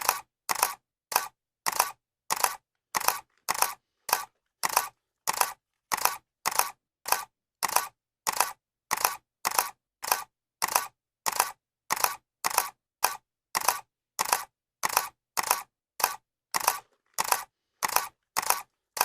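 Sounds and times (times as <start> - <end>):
camera shutter clicking: 0.0 - 19.0.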